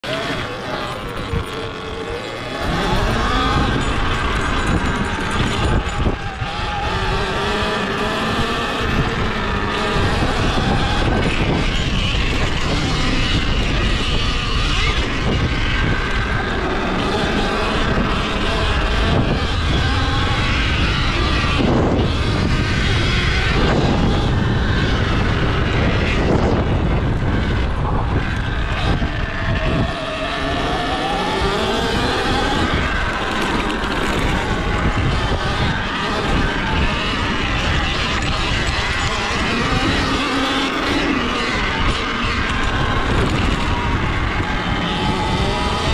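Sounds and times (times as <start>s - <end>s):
electric motor whine: 0.0s - 45.9s
low rumble of riding: 0.0s - 45.9s.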